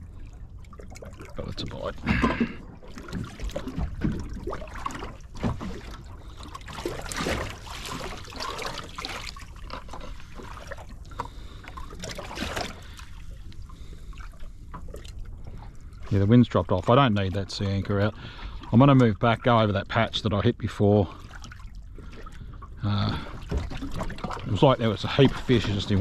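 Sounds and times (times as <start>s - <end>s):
waves lapping against boat hull: 0.0s - 26.0s.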